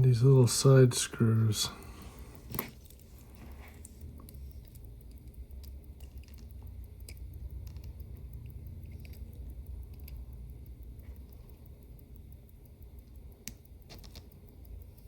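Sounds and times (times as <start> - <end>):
steady low hum: 0.0 - 15.0
small tool ticks and taps: 2.4 - 15.0.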